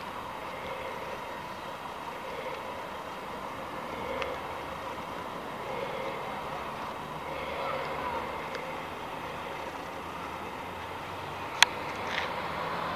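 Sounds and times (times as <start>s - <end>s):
distant traffic rumble: 0.0s - 12.9s.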